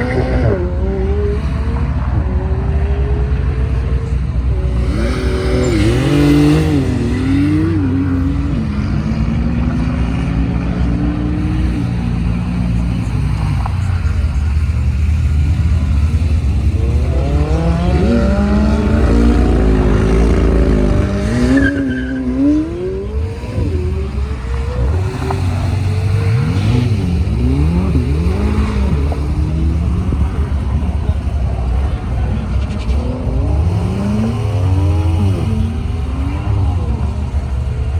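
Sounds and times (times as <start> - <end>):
car engines revving and accelerating: 0.0 - 37.9.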